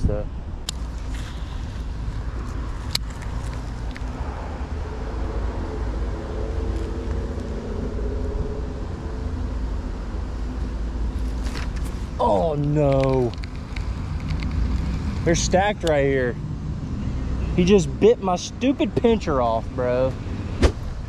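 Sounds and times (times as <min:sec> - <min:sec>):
road traffic rumble: 0:00.0 - 0:21.0
motor vehicle passing: 0:00.8 - 0:21.0.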